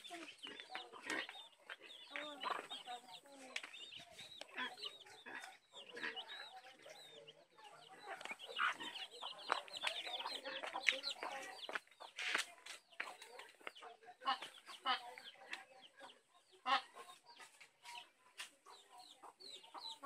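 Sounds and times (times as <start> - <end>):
chicks peeping: 0.0 - 20.0
hen clucking: 0.0 - 20.0.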